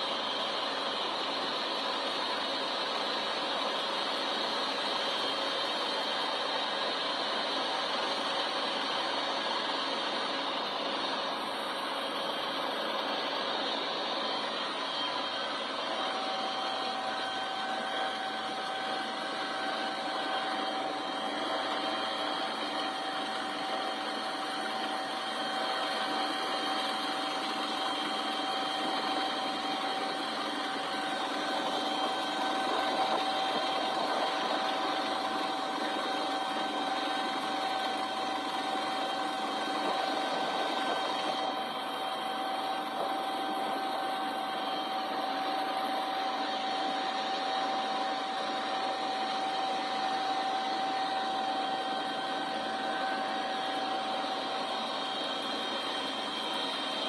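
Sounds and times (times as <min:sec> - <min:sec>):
machine whining: 0:00.0 - 0:57.0.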